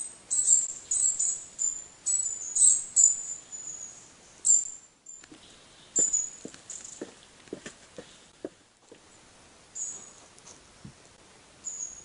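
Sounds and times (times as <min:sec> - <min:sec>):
small birds chirping: 0:00.0 - 0:10.3, 0:11.6 - 0:12.0.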